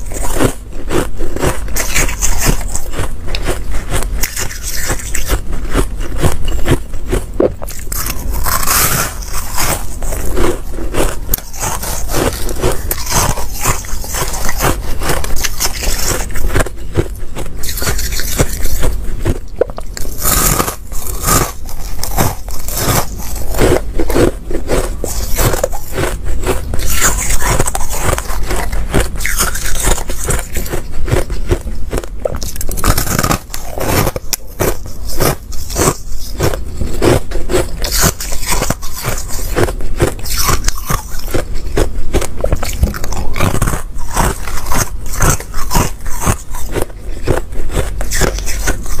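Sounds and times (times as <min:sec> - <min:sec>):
ice crunching being chewed: 0:00.0 - 0:49.0.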